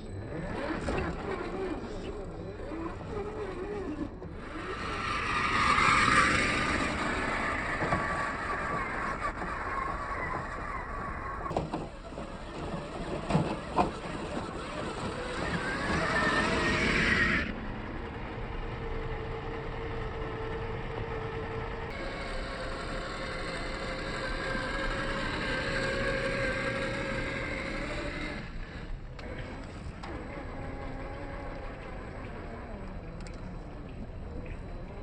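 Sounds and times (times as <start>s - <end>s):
electric motor whining: 0.0s - 35.0s
low steady hum: 0.0s - 35.0s.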